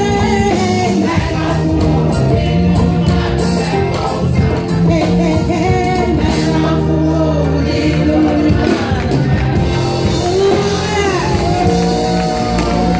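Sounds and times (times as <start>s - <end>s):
woman leading singing: 0.0s - 3.1s, 3.7s - 12.9s
bass line: 0.0s - 12.9s
drums: 0.0s - 12.9s
gospel choir singing: 0.0s - 12.9s.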